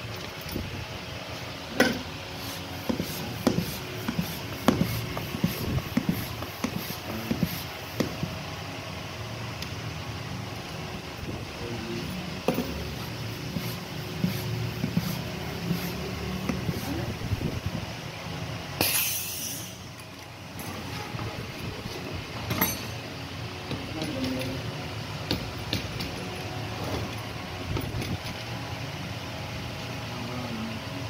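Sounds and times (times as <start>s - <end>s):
steady machine hum: 0.0s - 31.0s.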